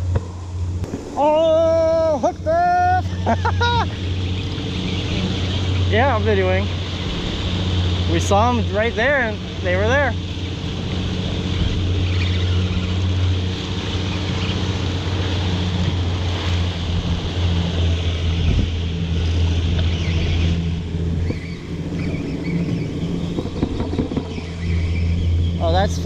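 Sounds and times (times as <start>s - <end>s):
boat engine humming: 0.0s - 26.0s
wind and water hiss: 0.0s - 26.0s.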